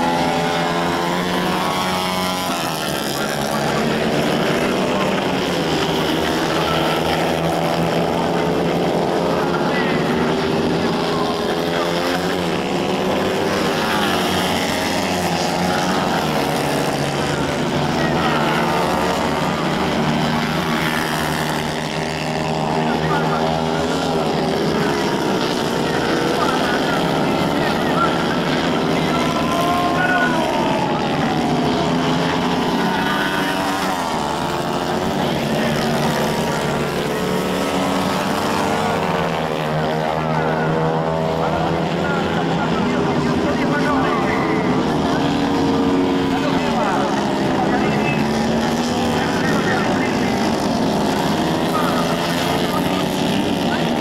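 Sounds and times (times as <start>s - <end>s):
kart engines revving: 0.0s - 54.0s.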